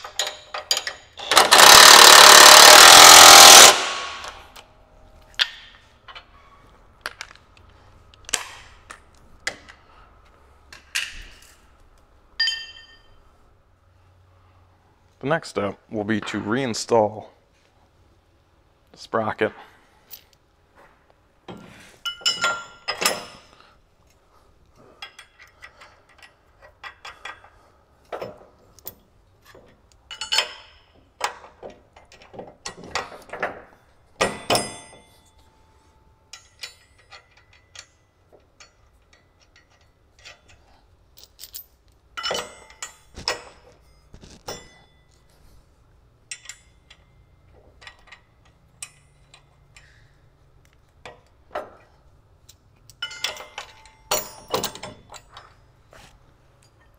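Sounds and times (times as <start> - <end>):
clinks and knocks of metal parts: 0.0 - 13.2, 19.4 - 56.9.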